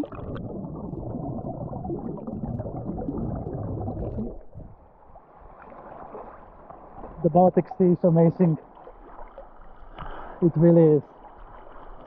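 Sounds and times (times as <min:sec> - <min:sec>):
muffled underwater water churning: 0:00.0 - 0:12.0.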